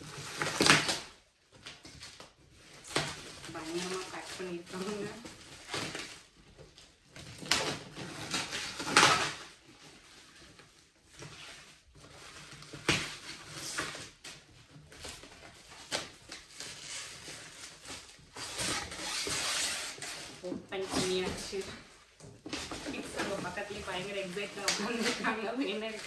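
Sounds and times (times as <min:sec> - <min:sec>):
packing tape peeling: 0:00.0 - 0:21.6
plastic wrap crinkling: 0:00.0 - 0:26.0.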